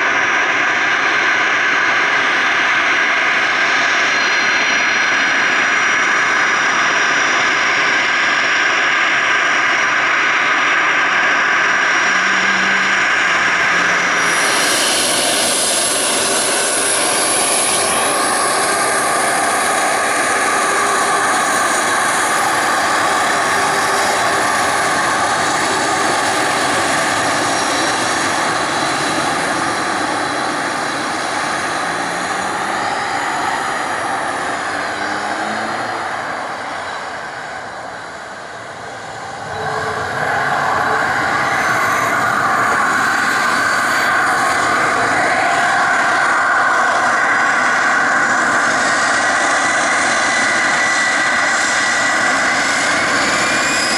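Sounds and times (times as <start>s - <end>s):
jet engine whine: 0.0s - 53.9s.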